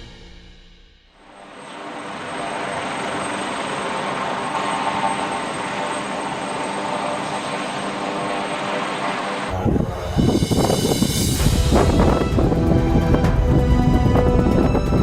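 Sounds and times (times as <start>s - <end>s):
aircraft engine noise: 1.2s - 15.0s
thin high whine: 1.2s - 15.0s.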